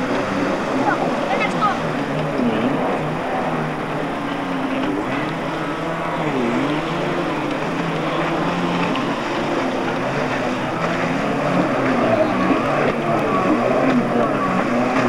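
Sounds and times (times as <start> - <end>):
jet ski engines revving: 0.0 - 15.0.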